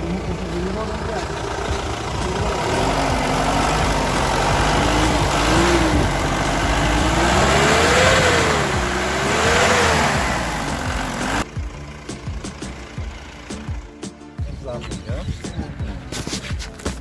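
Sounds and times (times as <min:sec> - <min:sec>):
diesel engine revving: 0:00.0 - 0:16.3.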